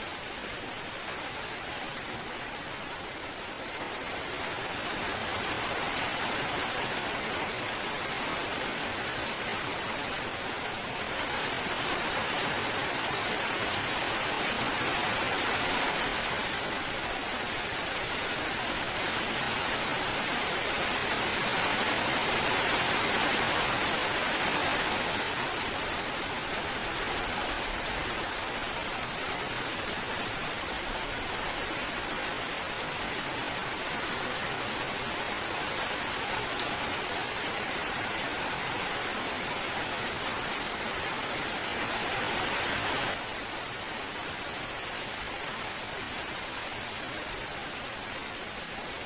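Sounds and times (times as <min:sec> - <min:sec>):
heavy rainfall: 0:00.0 - 0:49.0.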